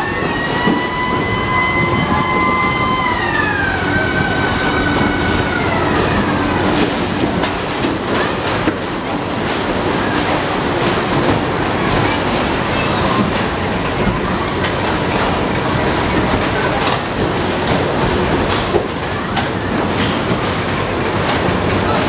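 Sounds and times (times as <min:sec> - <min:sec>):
ride machinery rumbling and rattling: 0:00.0 - 0:22.0.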